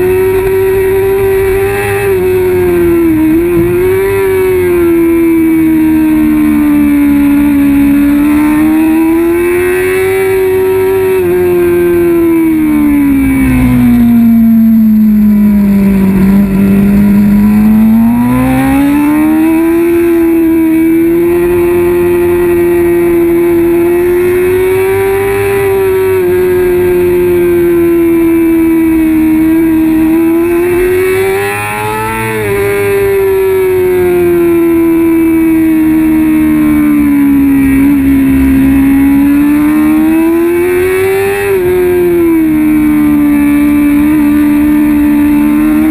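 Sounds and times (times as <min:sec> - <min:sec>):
motorcycle engine at high revs: 0:00.0 - 0:45.9.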